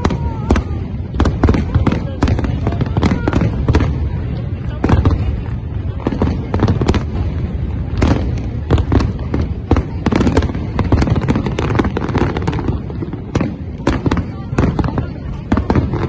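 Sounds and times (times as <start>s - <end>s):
continuous low rumble: 0.0s - 16.0s.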